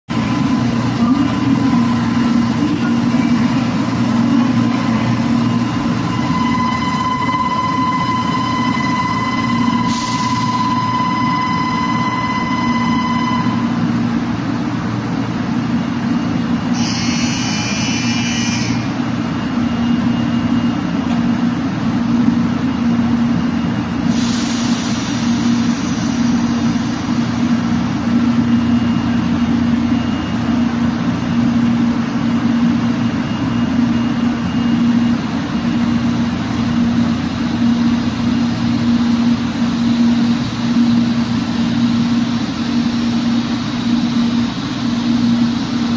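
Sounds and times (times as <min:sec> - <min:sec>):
train machinery humming: 0:00.1 - 0:45.9.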